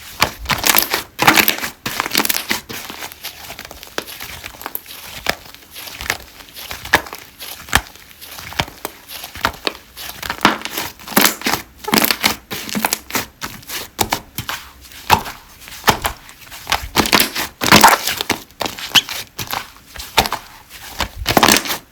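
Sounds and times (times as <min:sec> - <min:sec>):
slime crackling and squelching: 0:00.1 - 0:21.9.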